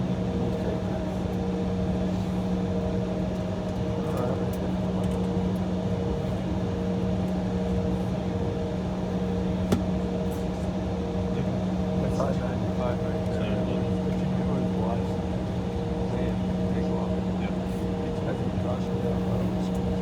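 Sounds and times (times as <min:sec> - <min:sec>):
airliner cabin drone: 0:00.0 - 0:20.0.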